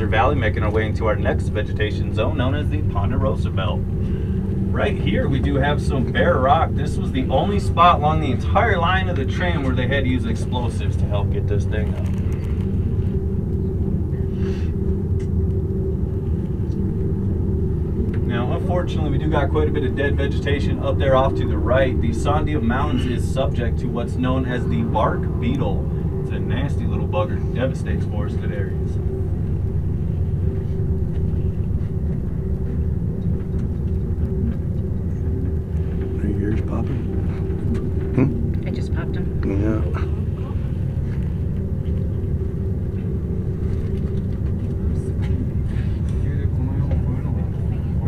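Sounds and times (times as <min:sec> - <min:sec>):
cable car rumble and hum: 0:00.0 - 0:48.0.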